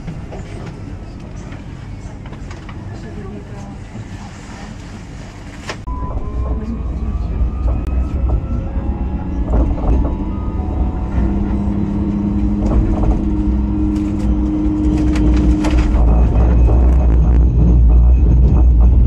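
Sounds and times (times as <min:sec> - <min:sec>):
tram rumble: 0:00.0 - 0:19.0.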